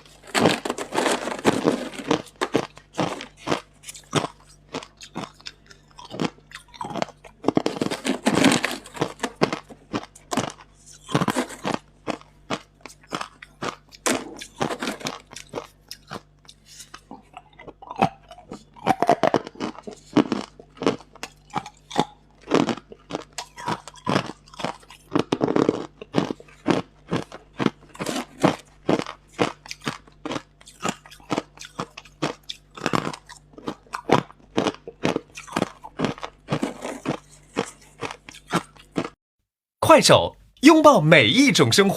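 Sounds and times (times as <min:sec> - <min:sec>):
chewing ice crunches: 0:00.0 - 0:39.2.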